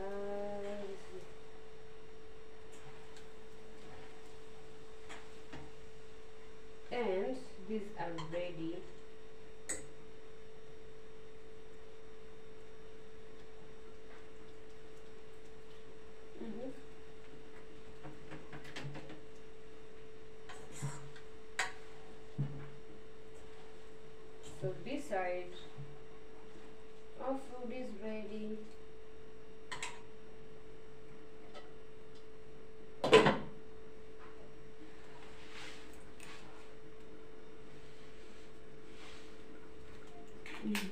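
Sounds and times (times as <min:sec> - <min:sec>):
steady mid-pitch hum: 0:00.0 - 0:40.9.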